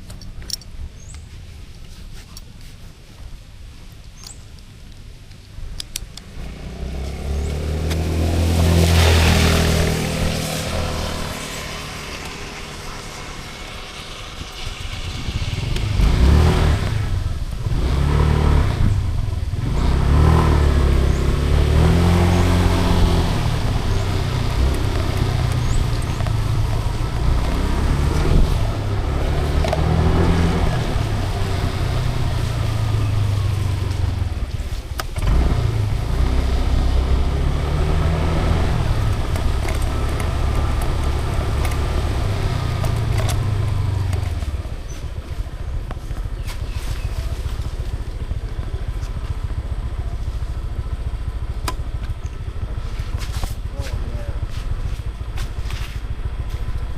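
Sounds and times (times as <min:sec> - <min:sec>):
road rumble: 0:00.0 - 0:56.9
car engine: 0:05.9 - 0:56.9.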